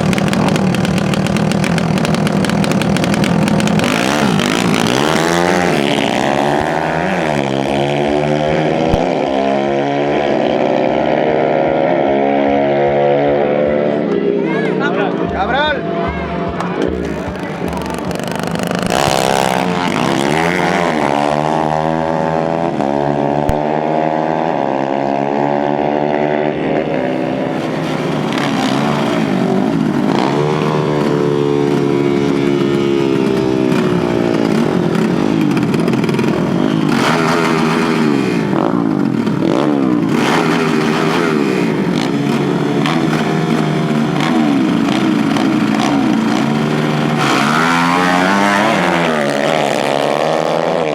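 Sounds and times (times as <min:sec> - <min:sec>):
dirt bike engines accelerating: 0:00.0 - 0:50.9.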